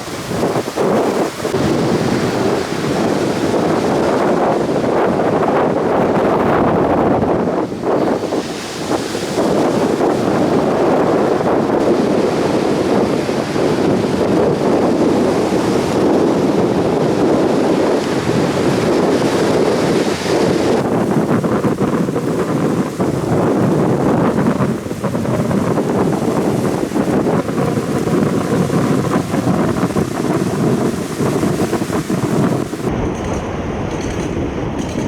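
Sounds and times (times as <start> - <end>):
heavy surf breaking: 0.0 - 35.0
wind buffeting microphone: 0.0 - 35.0.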